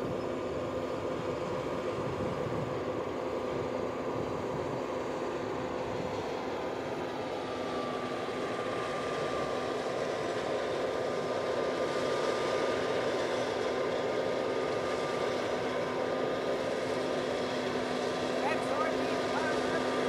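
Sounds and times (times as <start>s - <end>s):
combine harvester drone: 0.0s - 20.0s.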